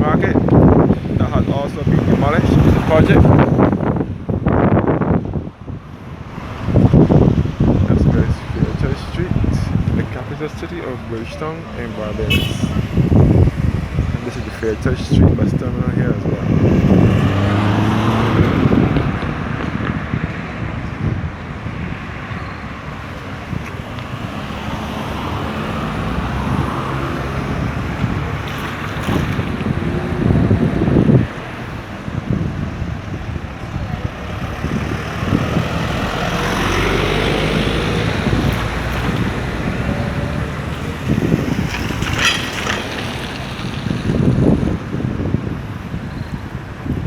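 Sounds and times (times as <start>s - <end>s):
vehicles passing by: 0.0s - 47.0s
wind buffeting microphone: 0.0s - 47.0s.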